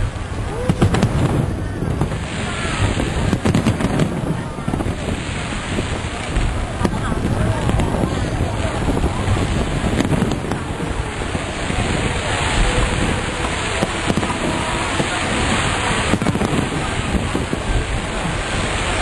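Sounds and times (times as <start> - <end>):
fireworks crackling and rumbling: 0.0 - 19.0
sharp firework bangs: 0.0 - 19.0.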